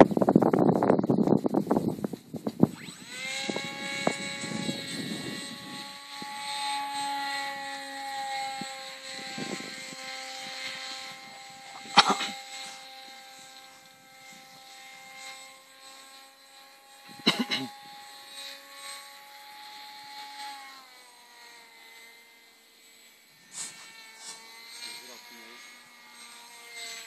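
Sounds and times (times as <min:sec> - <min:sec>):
model airplane motor whining: 0:00.0 - 0:27.0.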